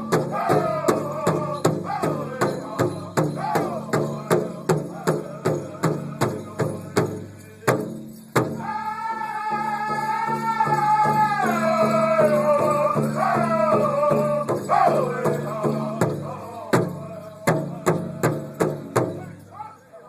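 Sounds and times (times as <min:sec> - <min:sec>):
high wavering voices singing: 0:00.0 - 0:06.5, 0:08.6 - 0:18.7
big drum steady beat: 0:00.0 - 0:08.8, 0:09.8 - 0:19.3.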